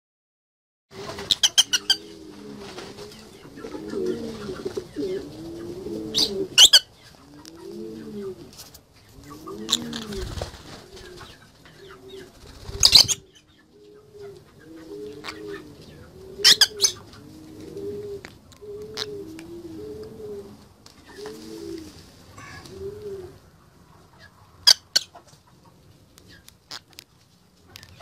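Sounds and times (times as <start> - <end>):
birds cooing: 0.9 - 25.1.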